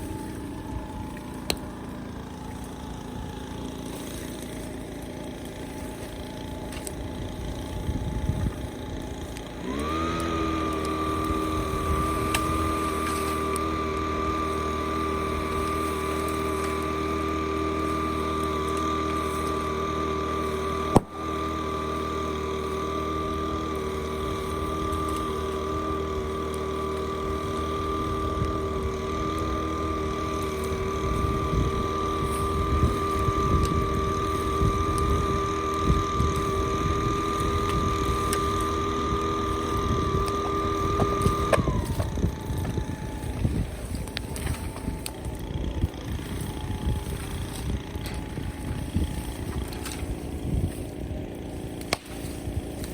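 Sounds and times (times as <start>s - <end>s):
motor droning: 0.0s - 52.9s.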